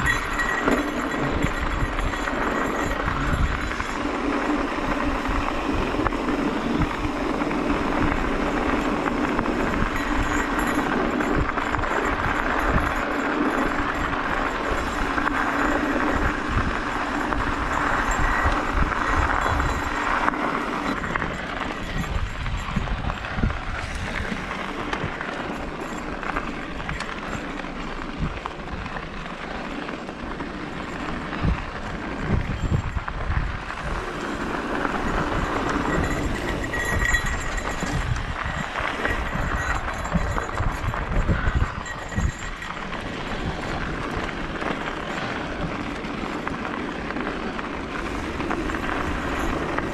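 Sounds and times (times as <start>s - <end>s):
bike rattling over bumps: 0.0s - 49.9s
tyres rolling on dirt and gravel: 0.0s - 49.9s
wind buffeting microphone: 0.0s - 49.9s.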